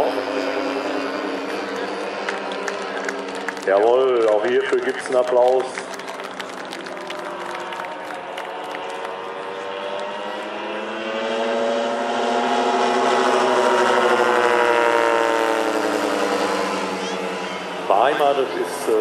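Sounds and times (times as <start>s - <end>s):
model plane engine and propeller: 0.0s - 19.0s.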